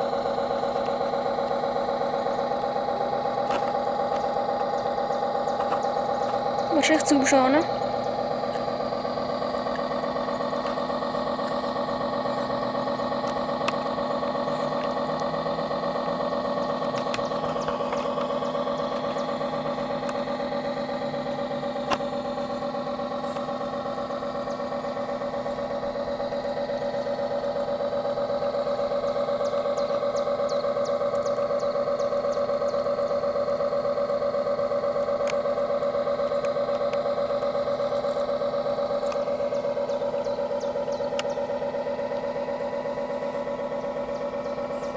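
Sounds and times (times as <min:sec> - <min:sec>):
mechanical hum of model boat drive: 0:00.0 - 0:44.9.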